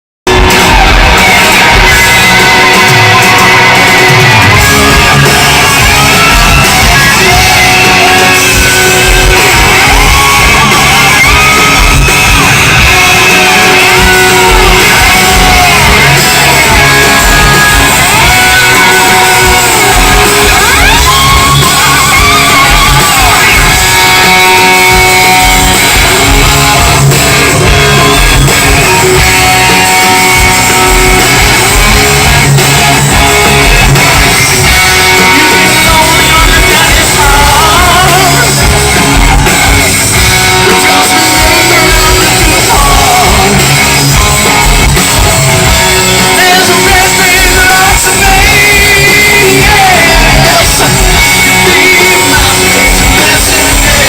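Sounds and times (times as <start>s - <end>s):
live rock band playing: 0.2s - 54.0s
electric guitar sliding in pitch: 0.3s - 54.0s.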